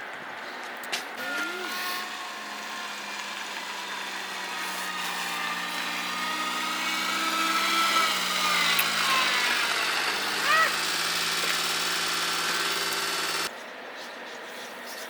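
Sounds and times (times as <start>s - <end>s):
engine droning steadily: 0.0s - 13.5s.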